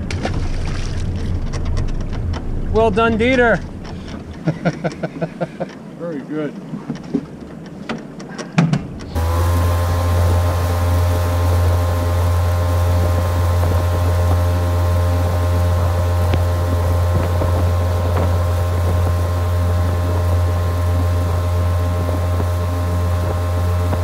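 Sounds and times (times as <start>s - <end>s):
rush of water: 0.0s - 4.5s, 9.2s - 24.0s
outboard motor running: 0.0s - 5.8s, 9.0s - 24.0s
wind: 0.0s - 24.0s.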